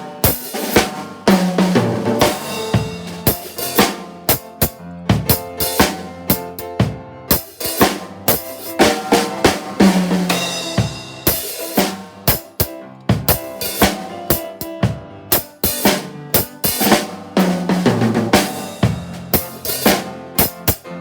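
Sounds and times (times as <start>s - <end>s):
drum kit reggae groove: 0.0s - 21.0s
piano chords: 0.0s - 21.0s.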